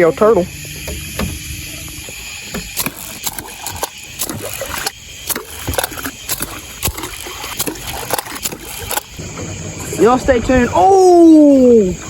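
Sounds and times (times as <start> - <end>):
boat motor running: 0.0 - 12.0
water: 0.0 - 12.0.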